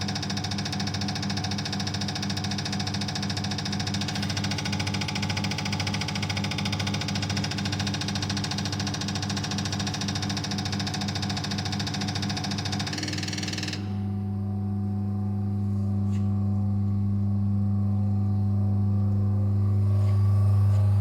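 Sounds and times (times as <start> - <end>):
test bench motor humming: 0.0 - 21.0.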